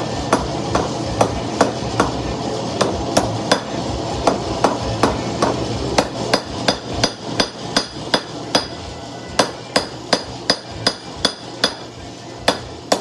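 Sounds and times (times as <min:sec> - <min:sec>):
hammer blows ringing on anvil: 0:00.3 - 0:02.2, 0:02.8 - 0:08.8, 0:09.4 - 0:13.0.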